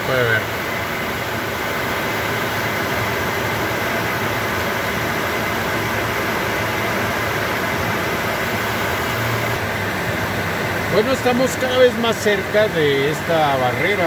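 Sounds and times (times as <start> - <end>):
airflow rushing in cockpit: 0.0 - 14.0
faint high whine: 0.0 - 14.0
jet engines humming: 0.0 - 14.0.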